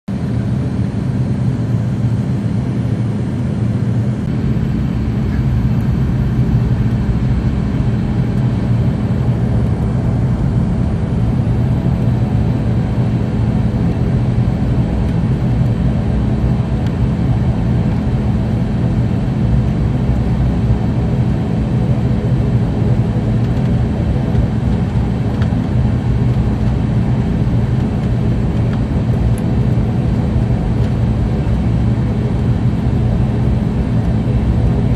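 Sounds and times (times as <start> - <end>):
turboprop engine drone in cabin: 0.1 - 34.9.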